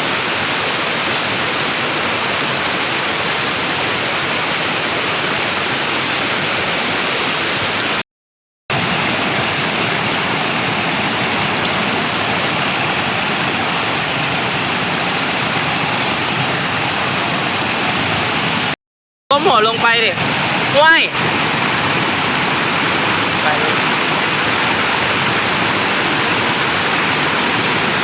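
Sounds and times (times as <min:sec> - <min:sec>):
waterfall rushing: 0:00.0 - 0:08.0, 0:08.7 - 0:28.0.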